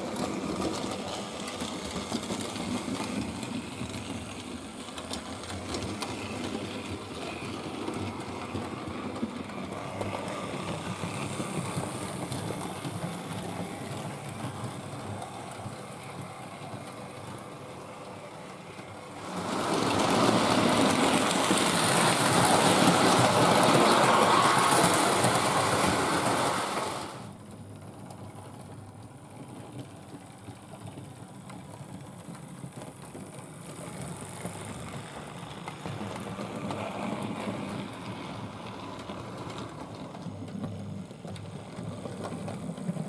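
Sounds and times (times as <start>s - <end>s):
model train motor whirring: 0.0s - 27.3s, 30.5s - 43.0s.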